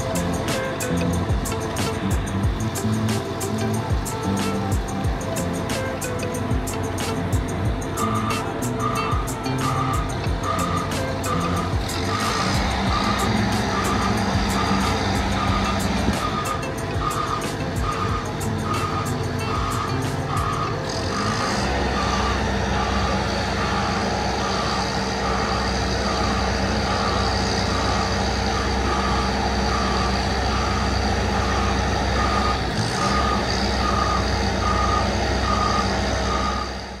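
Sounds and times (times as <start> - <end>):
heavy diesel engines running: 0.0 - 37.0
reversing alarm beeping: 0.0 - 37.0.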